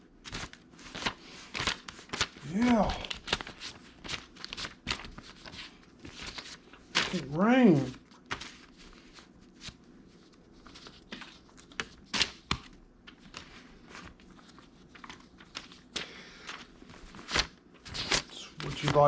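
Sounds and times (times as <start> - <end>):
paper banknotes rustling: 0.2 - 19.0.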